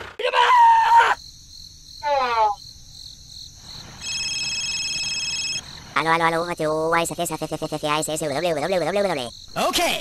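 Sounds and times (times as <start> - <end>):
high cricket chirring: 1.0 - 10.0.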